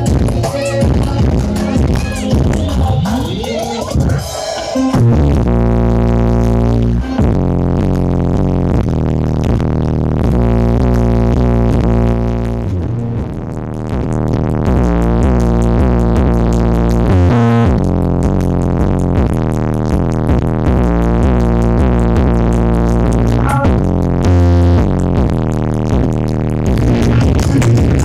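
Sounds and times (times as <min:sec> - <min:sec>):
electronic dance music with deep bass: 0:00.0 - 0:28.0.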